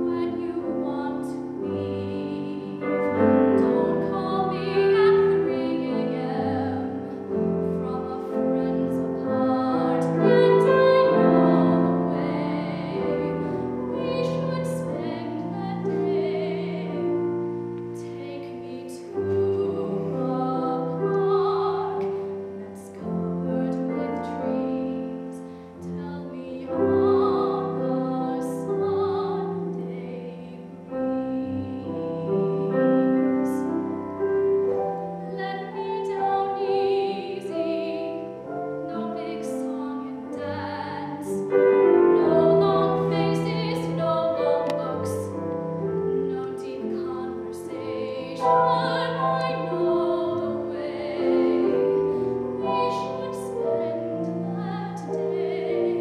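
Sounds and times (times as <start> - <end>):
piano accompaniment: 0.0 - 56.0
soprano singing: 0.0 - 56.0.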